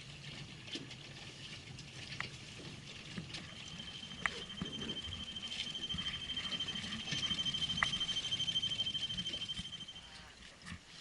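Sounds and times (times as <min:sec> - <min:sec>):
spinning reel whine: 0:01.8 - 0:11.0.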